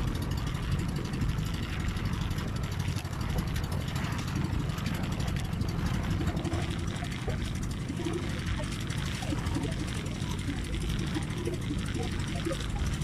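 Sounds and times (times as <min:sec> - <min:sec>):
boat engine running: 0:00.0 - 0:13.0
water splashing along hull: 0:00.0 - 0:13.0.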